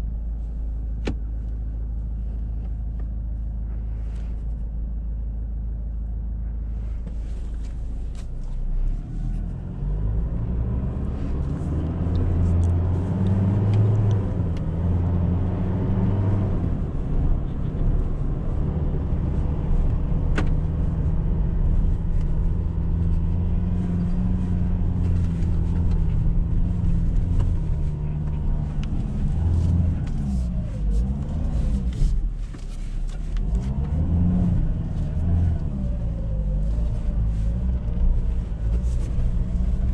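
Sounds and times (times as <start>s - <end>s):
truck engine from inside cab: 0.0s - 39.9s.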